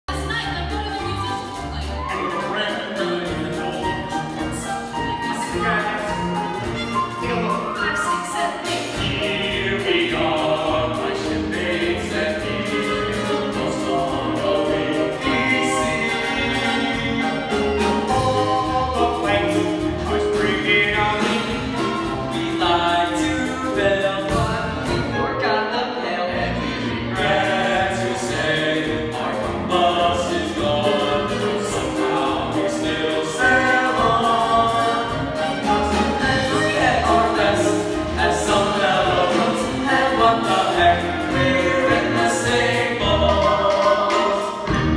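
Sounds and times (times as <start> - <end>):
group of voices singing: 0.1 - 44.9
orchestra playing: 0.1 - 44.9.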